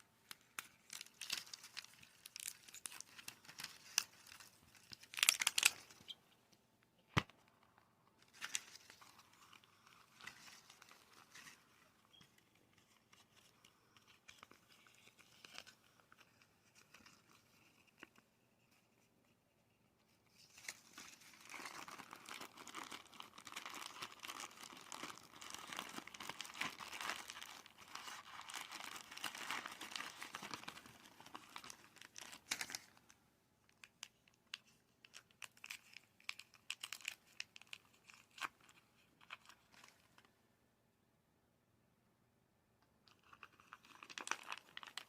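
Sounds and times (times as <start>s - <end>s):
plastic packaging crinkling and tearing: 0.2s - 6.2s, 8.2s - 18.2s, 20.3s - 40.3s, 43.1s - 45.0s.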